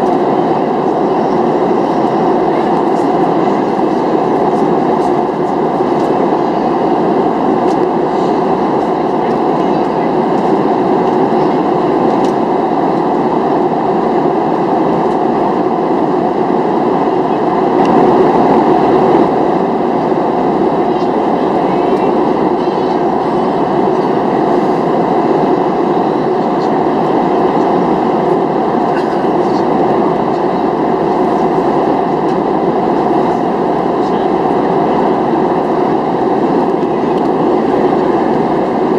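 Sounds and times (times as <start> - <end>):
airplane cabin noise: 0.0 - 38.9
jet engines: 0.0 - 38.9
rush of airflow: 0.0 - 38.9.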